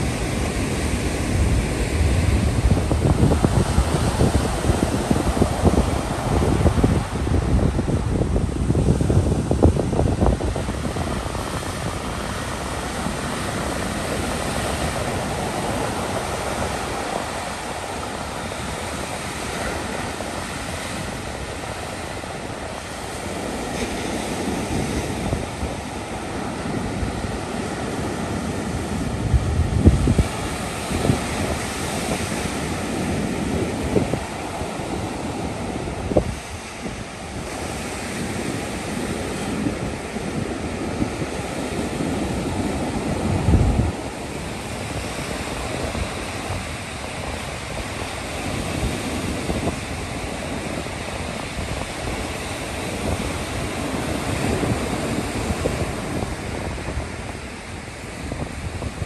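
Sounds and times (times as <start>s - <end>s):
ocean surf breaking on beach: 0.0s - 59.0s
wind gusts on microphone: 0.0s - 59.0s.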